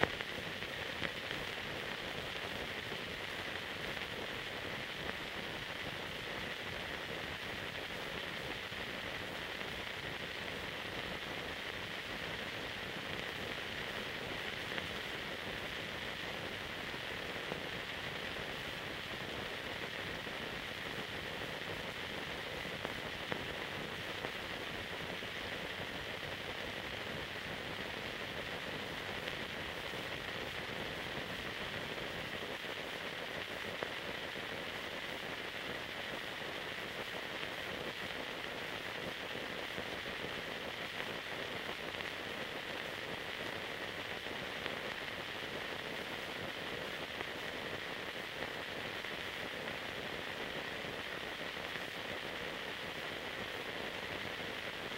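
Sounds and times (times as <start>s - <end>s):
faint clicks and crackles: 0.0s - 54.9s
steady hiss: 0.0s - 54.9s.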